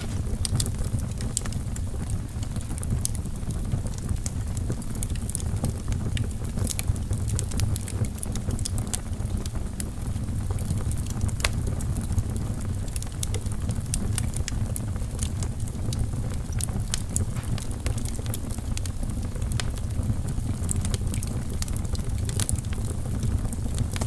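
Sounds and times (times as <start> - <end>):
fire flames rumbling: 0.0 - 24.0
logs crackling and popping: 0.0 - 24.0.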